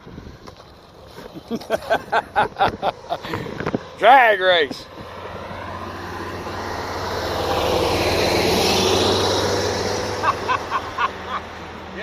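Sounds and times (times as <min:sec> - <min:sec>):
truck engine and tyres accelerating: 0:00.0 - 0:12.0.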